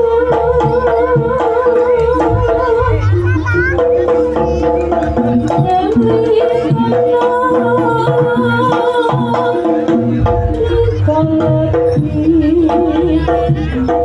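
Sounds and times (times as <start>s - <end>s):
deep drum: 0.0s - 14.0s
hand drums beating: 0.0s - 14.0s.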